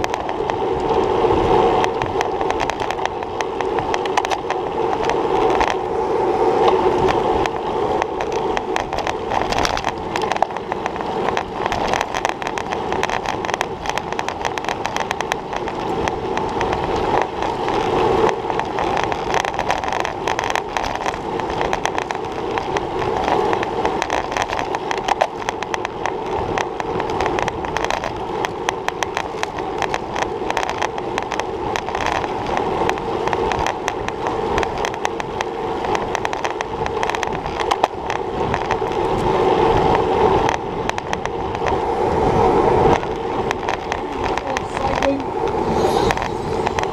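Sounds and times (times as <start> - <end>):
bike tyre and wind noise: 0.0 - 46.9
small knocks and rattles: 1.8 - 5.8, 6.7 - 41.8, 42.9 - 46.9.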